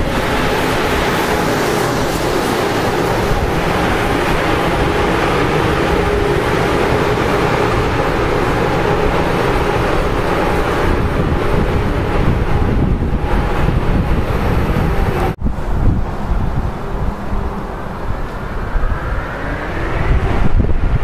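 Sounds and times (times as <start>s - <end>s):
train rumble: 0.0s - 21.0s
wind on microphone: 0.0s - 21.0s.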